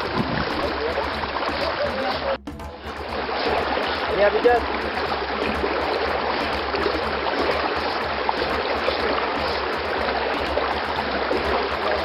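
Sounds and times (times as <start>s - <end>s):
shallow river water rushing: 0.0s - 12.0s.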